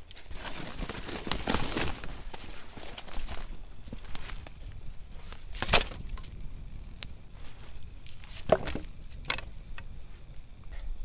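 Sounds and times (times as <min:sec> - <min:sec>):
dry sticks knocking and cracking: 0:00.0 - 0:10.4.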